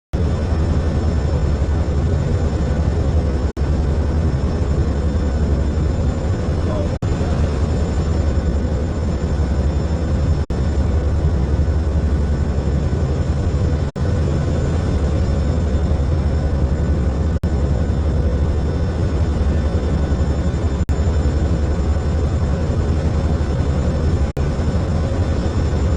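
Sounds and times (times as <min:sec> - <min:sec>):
aircraft engines droning: 0:00.2 - 0:25.9.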